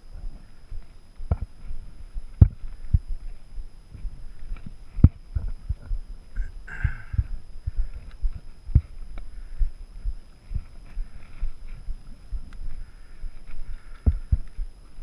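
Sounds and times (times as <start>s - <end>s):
footsteps on dirt trail: 0.2s - 15.0s.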